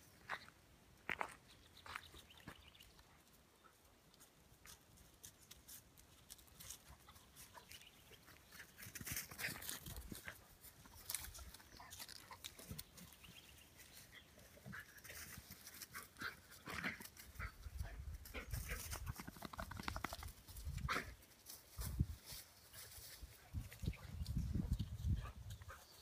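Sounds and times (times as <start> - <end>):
rustling in grass and leaves: 0.0 - 26.0.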